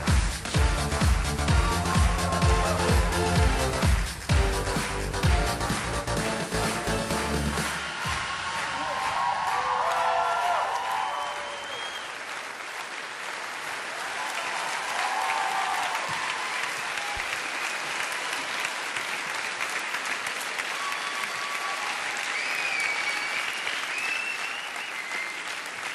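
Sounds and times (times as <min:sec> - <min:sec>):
audience applauding: 0:00.0 - 0:25.9
audience cheering: 0:01.4 - 0:05.0, 0:07.2 - 0:12.8, 0:13.4 - 0:25.9.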